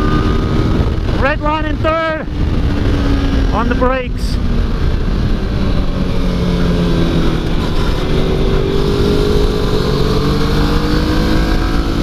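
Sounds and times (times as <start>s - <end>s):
motorcycle engine: 0.0s - 12.0s
wind rumble on microphone: 0.0s - 12.0s.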